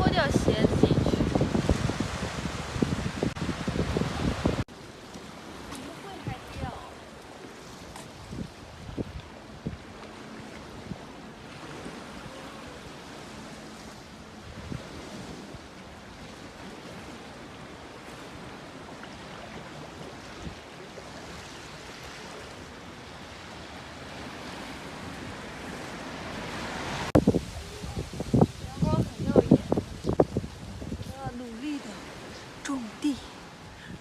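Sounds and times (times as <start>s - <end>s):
sea waves washing on shore: 0.0s - 34.0s
wind: 0.0s - 34.0s.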